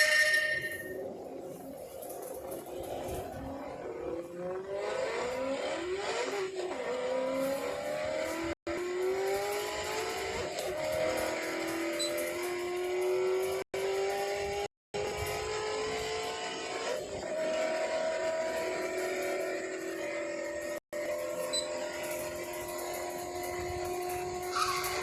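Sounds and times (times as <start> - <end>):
car engine revving: 3.6 - 25.0.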